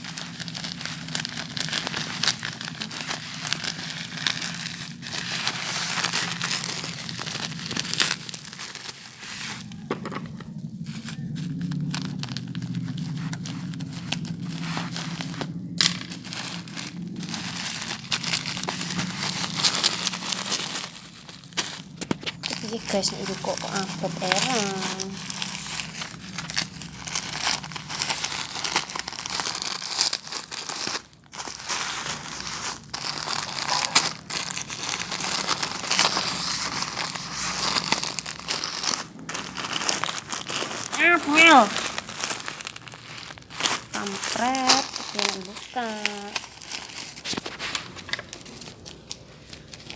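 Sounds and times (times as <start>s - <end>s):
packaging crinkling and tearing: 0.0s - 49.9s.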